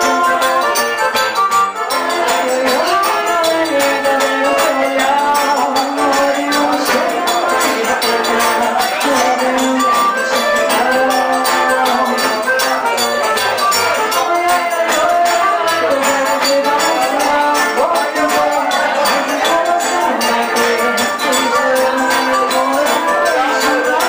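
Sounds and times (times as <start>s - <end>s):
accordion: 0.0s - 24.0s
acoustic guitar: 0.0s - 24.0s
hand percussion: 0.0s - 24.0s.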